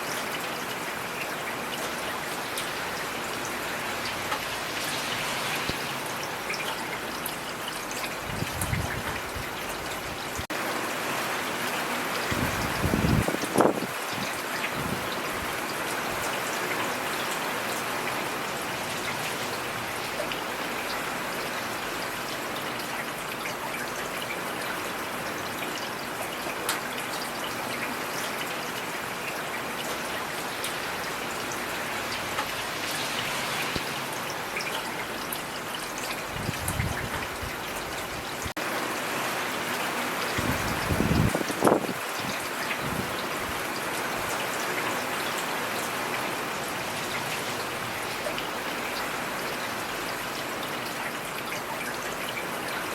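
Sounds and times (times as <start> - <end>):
steady rainfall: 0.0 - 52.9.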